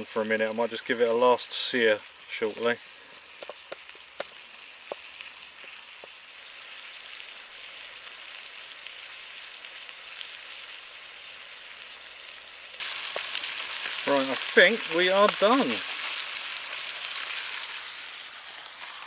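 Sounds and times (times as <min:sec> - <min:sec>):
steak sizzling in a pan: 0:00.0 - 0:19.0.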